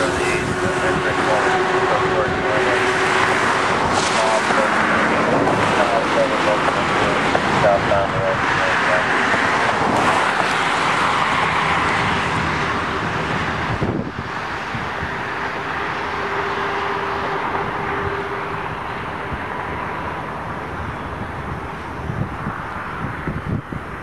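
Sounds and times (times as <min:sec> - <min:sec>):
passing vehicle rumble: 0:00.0 - 0:24.0.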